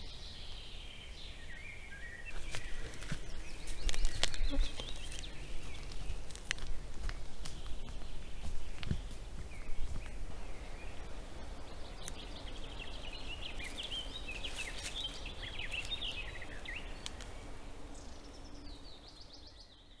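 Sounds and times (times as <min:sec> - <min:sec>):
songbirds singing: 0:00.0 - 0:20.0
steady low hiss: 0:00.0 - 0:20.0.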